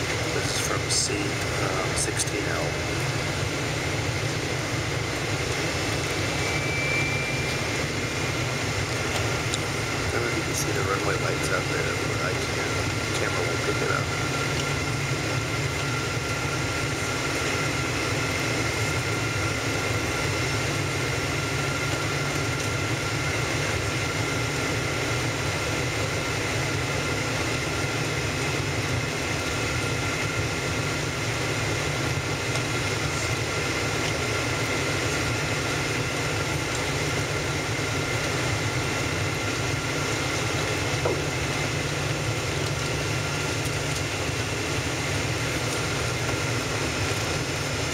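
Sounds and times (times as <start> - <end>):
airplane cabin rumble: 0.0 - 47.9
faint steady whining tones: 0.0 - 47.9.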